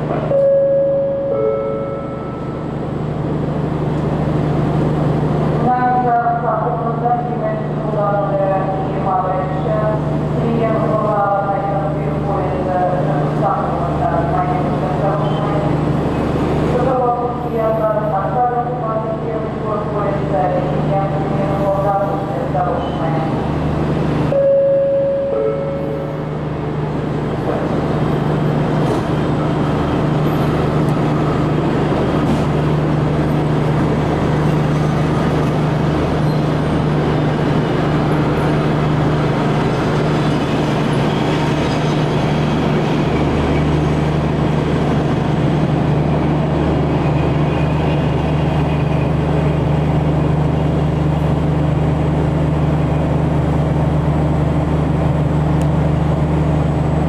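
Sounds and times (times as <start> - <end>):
train coaches rumbling past: 0.0 - 57.0.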